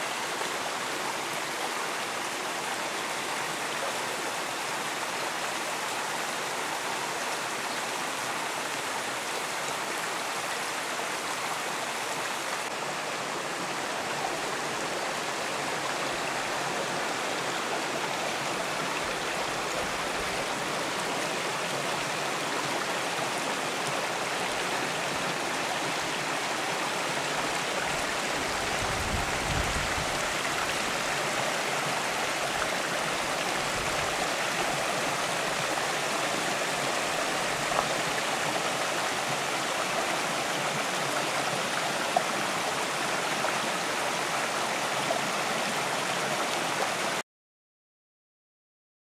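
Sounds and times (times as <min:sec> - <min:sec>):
stream rushing over rocks: 0:00.0 - 0:47.2.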